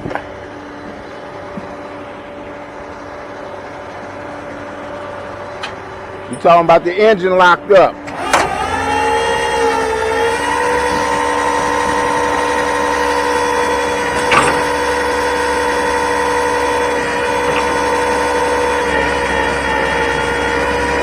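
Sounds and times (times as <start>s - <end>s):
steady whine: 0.0s - 21.0s
vehicle engine idling: 0.0s - 21.0s.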